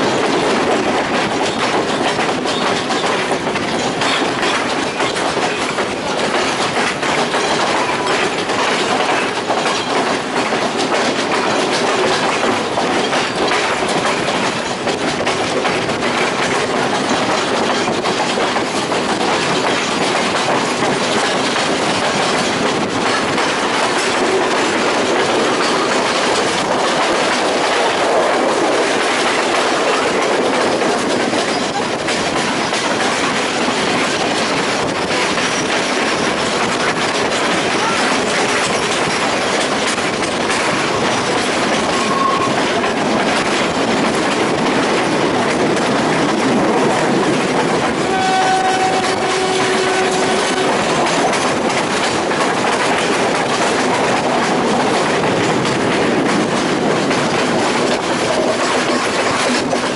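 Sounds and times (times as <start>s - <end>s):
train rumbling: 0.0s - 59.9s
wheels clacking over rail joints: 0.0s - 59.9s.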